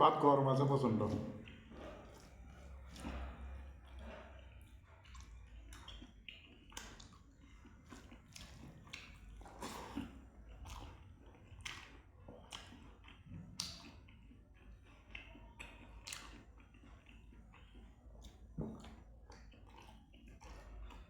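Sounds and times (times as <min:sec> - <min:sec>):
person chewing food: 0:01.0 - 0:21.0.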